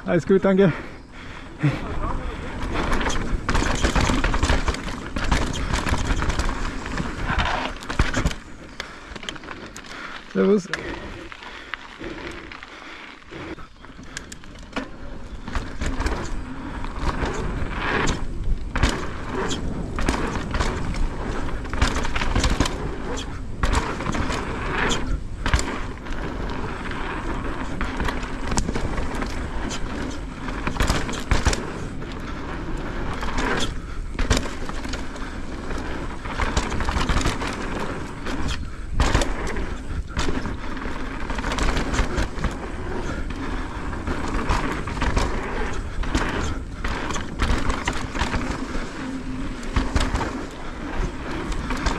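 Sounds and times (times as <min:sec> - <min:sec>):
bike clicks and rattles: 0:00.0 - 0:51.9
tyre and wind noise: 0:00.0 - 0:51.9.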